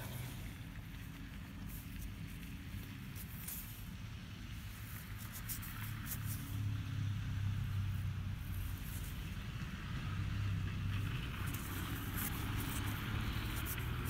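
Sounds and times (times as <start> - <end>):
faint rustles: 0.0 - 14.0
low engine hum: 0.0 - 14.0.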